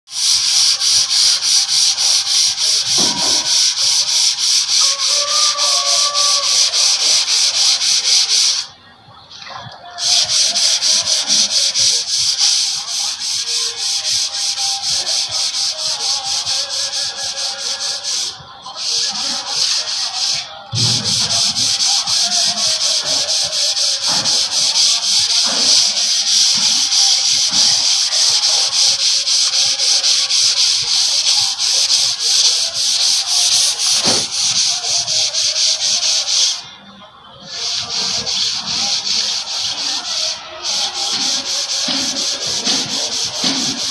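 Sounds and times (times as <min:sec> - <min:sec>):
sanding a wall: 0:00.1 - 0:08.7, 0:10.0 - 0:36.6, 0:37.5 - 0:43.9.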